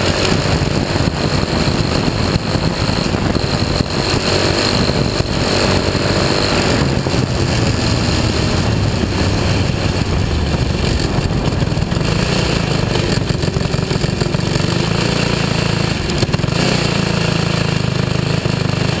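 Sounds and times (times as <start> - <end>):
race car engine pulling hard: 0.0 - 19.0.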